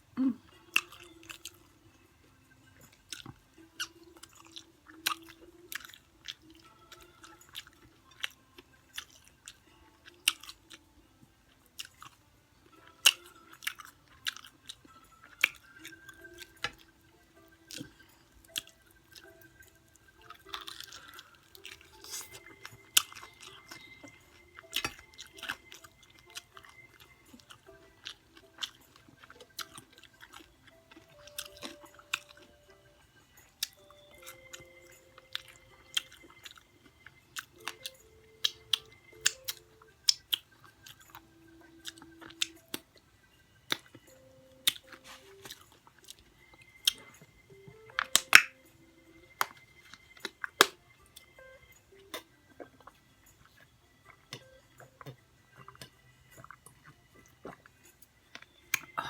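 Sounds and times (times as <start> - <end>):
chewing crunchy fried chicken: 0.4 - 1.7, 2.8 - 10.9, 11.5 - 32.7, 33.4 - 43.1, 43.7 - 48.6, 51.9 - 59.0.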